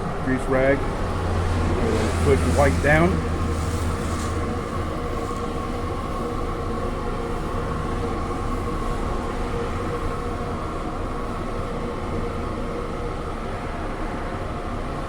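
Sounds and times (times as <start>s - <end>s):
kitchen machinery hum: 0.0s - 13.8s.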